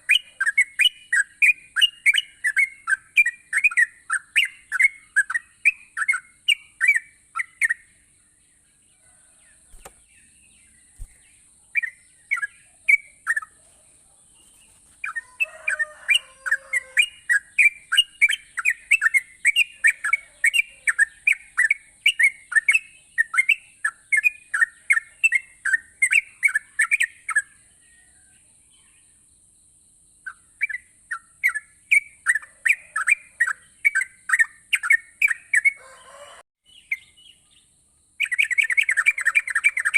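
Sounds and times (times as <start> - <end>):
bird chirping: 0.0 - 29.5, 30.2 - 39.9.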